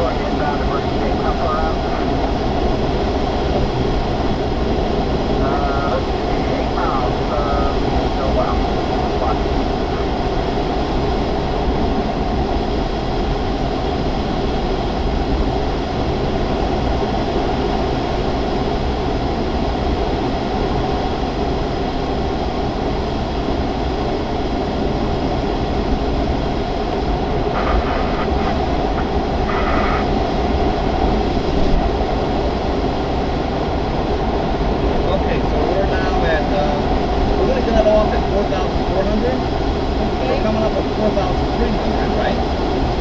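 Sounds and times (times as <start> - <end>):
rushing airflow in glider cockpit: 0.0 - 43.0.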